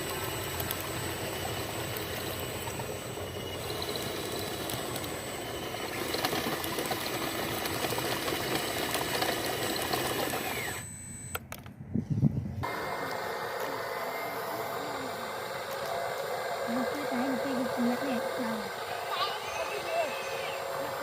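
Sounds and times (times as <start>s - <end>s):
small electric motors whirring: 0.0s - 21.0s.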